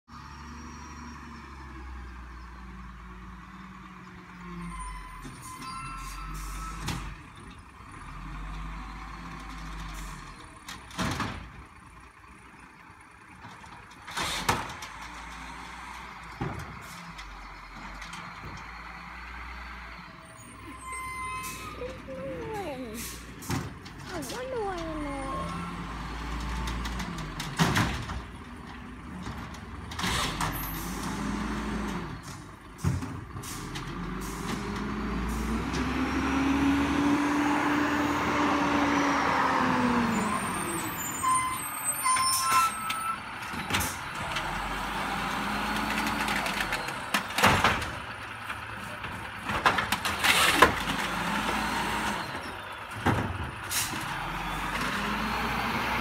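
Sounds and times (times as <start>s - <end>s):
garbage truck engine revving: 0.1s - 56.0s.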